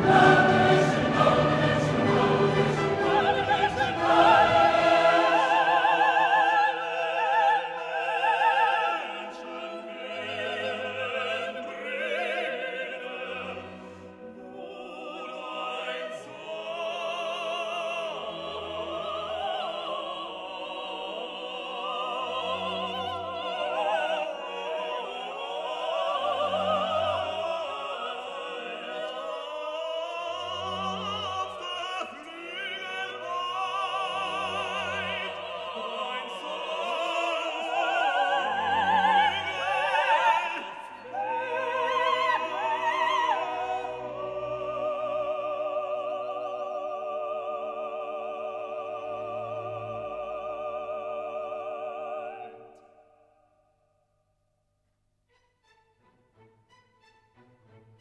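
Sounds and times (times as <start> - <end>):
operatic singing with orchestra: 0.0 - 53.2.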